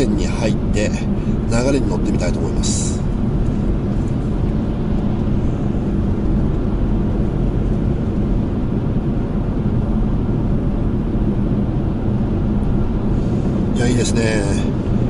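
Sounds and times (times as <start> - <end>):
road and tyre rumble in car: 0.0 - 15.0.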